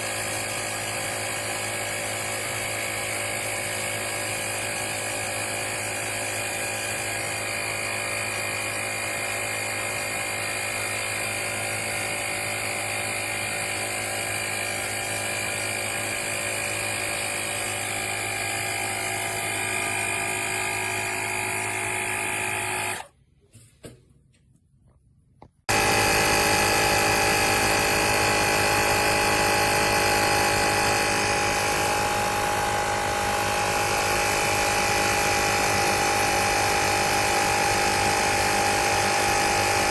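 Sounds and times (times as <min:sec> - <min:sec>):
electric air compressor running: 0:00.0 - 0:23.1, 0:25.7 - 0:39.9.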